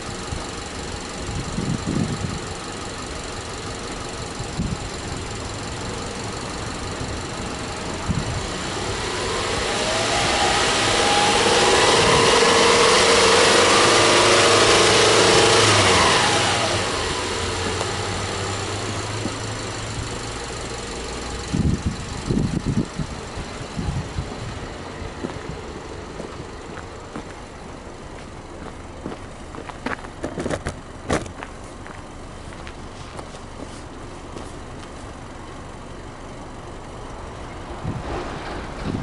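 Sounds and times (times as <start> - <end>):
car engine revving and idling: 0.0 - 39.0.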